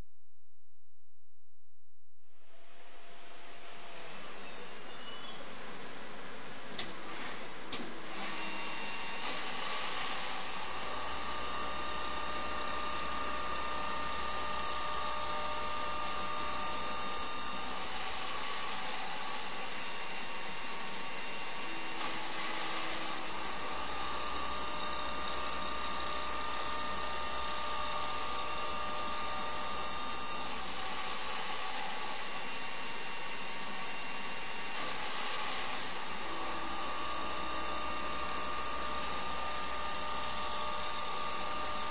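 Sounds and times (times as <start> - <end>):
machine spindle whining: 6.7 - 41.9.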